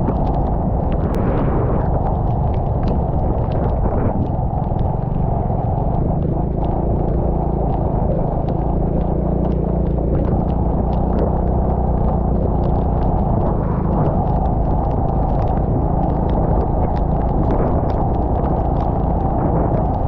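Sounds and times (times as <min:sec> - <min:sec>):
raindrops ticking on camera: 0:00.0 - 0:20.0
vehicle engine hum: 0:00.0 - 0:20.0
wind and road noise: 0:00.0 - 0:20.0.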